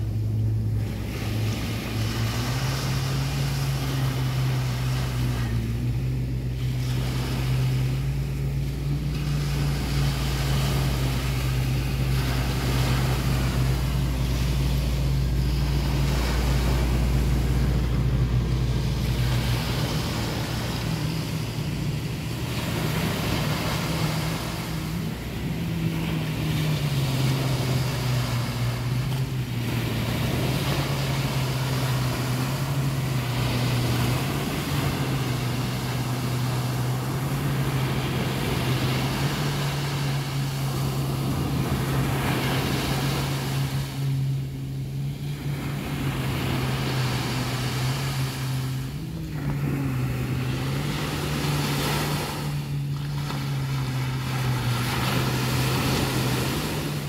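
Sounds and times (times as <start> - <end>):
deep rumble: 0.0 - 57.0
small waves breaking on beach: 0.0 - 57.0
steady low hum: 0.0 - 57.0.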